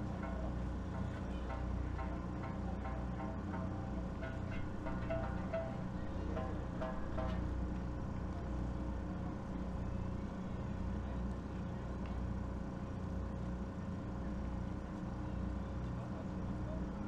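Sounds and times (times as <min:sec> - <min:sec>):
faint steady hum: 0:00.0 - 0:17.0
steady low rumble: 0:00.0 - 0:17.0.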